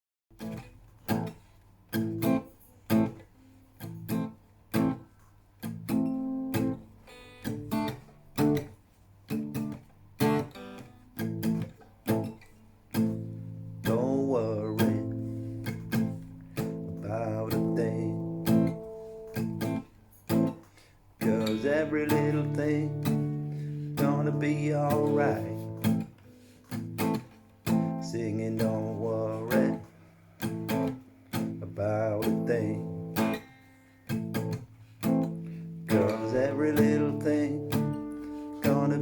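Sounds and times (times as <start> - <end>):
acoustic guitar strumming chords: 0.3 - 39.0.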